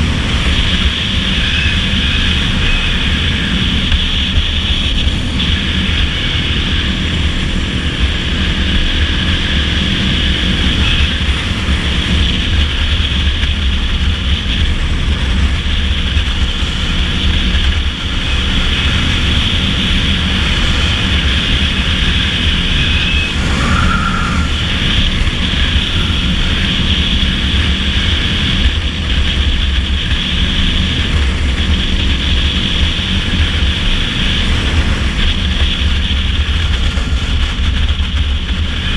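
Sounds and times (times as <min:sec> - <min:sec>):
dirt bike engine running: 0:00.0 - 0:38.9
wind rumble on microphone: 0:00.0 - 0:38.9.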